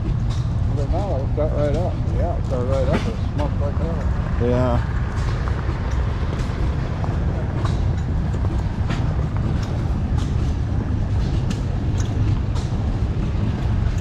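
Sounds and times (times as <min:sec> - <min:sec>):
ticks and rattles: 0:00.0 - 0:14.0
vehicle engine rumble: 0:00.0 - 0:14.0.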